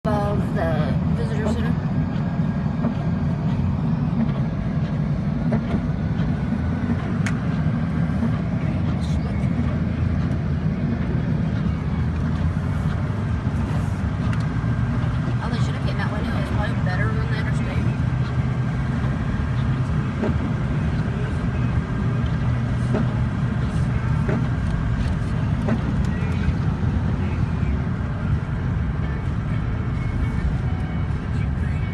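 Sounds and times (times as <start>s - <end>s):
low vehicle rumble: 0.0s - 31.9s.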